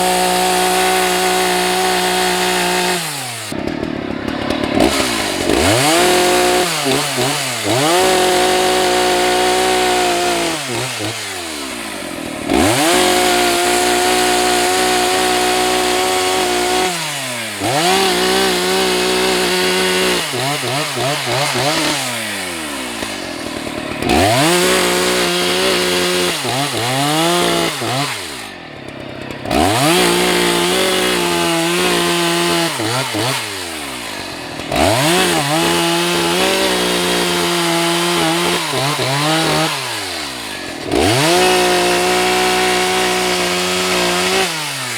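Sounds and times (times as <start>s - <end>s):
chainsaw cutting logs: 0.0s - 44.9s.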